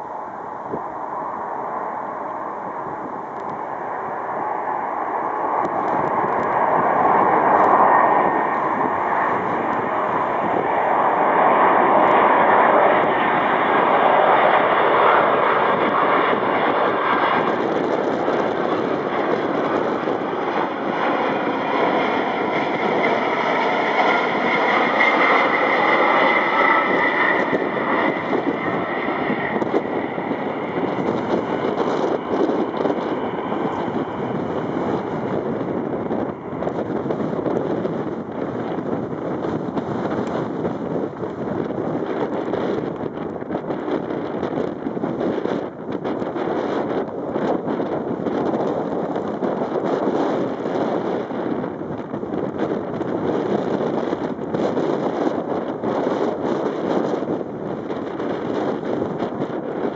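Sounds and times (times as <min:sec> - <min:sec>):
high jet whine: 0:00.0 - 0:59.9
jet engines roaring: 0:00.0 - 0:59.9.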